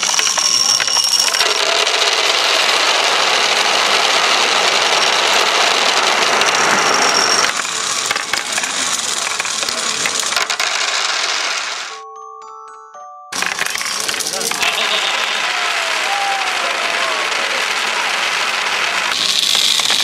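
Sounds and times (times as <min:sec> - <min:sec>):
plastic balls clattering: 0:00.0 - 0:12.0, 0:13.4 - 0:20.0.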